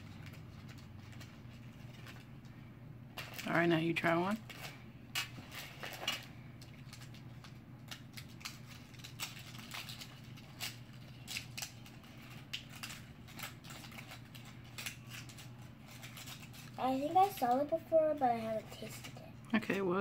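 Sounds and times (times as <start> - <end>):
foil wrapper crinkling: 0.0 - 2.4, 3.2 - 17.8
low room hum: 0.0 - 20.0.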